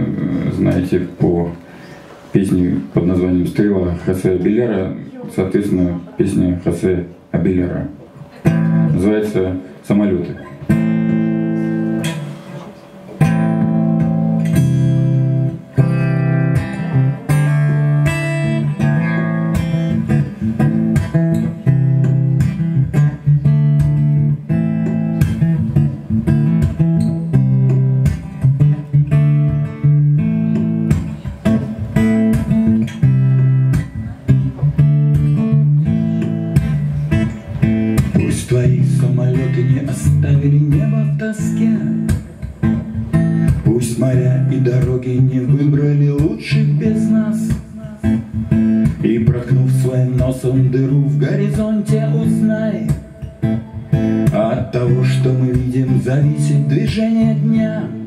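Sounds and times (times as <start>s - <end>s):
acoustic guitar strumming: 7.7s - 58.0s.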